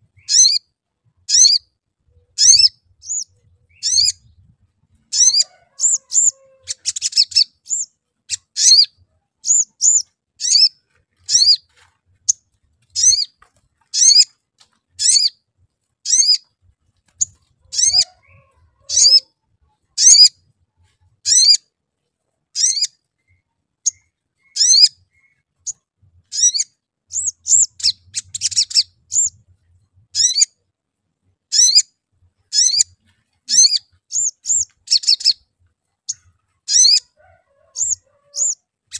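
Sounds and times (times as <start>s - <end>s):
bird high chirps: 0.0s - 0.7s, 1.3s - 15.4s, 16.0s - 16.5s, 17.1s - 21.7s, 22.5s - 30.6s, 31.5s - 38.9s.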